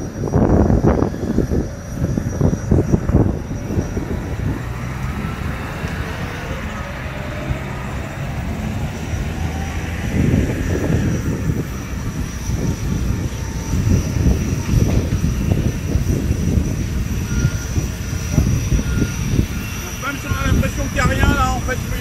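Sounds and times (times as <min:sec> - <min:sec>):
faint high whine: 0:00.0 - 0:22.0
tow tractor engine rumble: 0:00.0 - 0:22.0.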